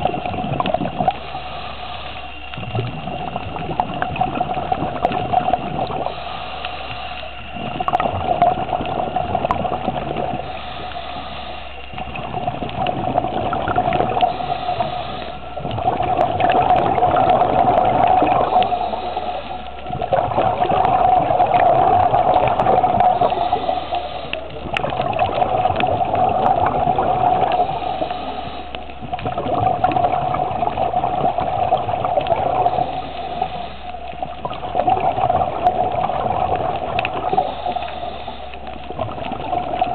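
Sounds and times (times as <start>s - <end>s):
diver breathing through regulator: 0.0s - 35.9s, 36.7s - 39.9s
steady hum: 0.0s - 39.9s.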